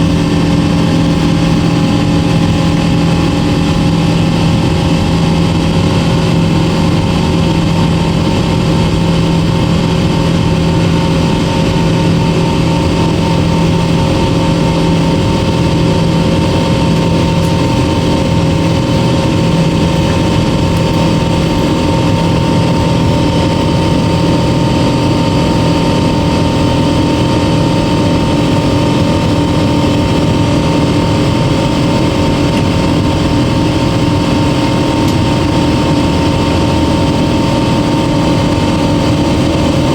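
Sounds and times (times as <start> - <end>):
constant droning tones: 0.0 - 39.9
jet engine and air roar: 0.0 - 39.9.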